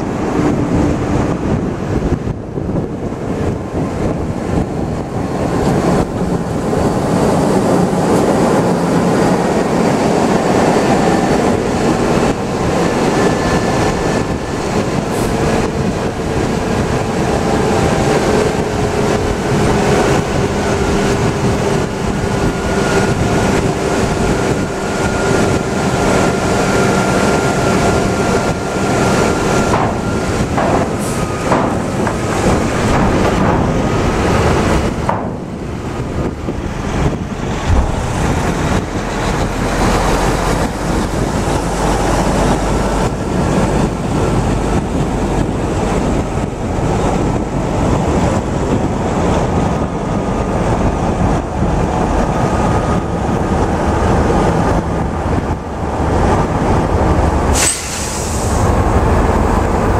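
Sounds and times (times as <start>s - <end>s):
truck diesel engine rumble: 0.0s - 59.9s
tyre and road noise: 0.0s - 59.9s.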